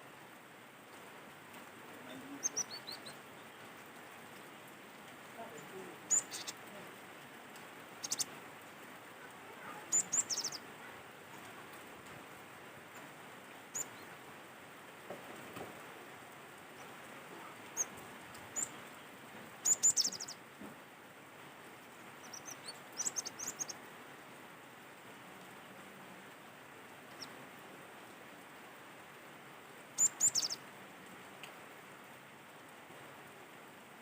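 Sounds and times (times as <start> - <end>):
background hiss: 0.0 - 34.0.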